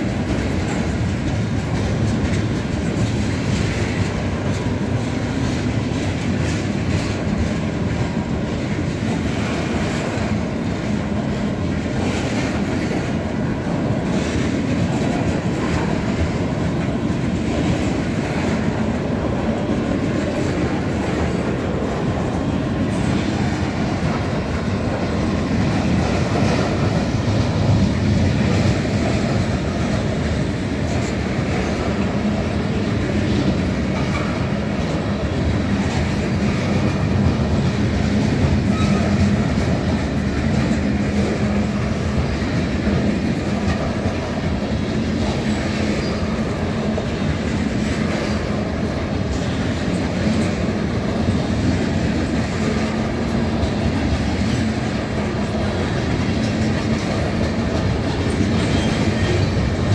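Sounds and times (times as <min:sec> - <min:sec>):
train wheels rolling on rails: 0:00.0 - 0:59.9.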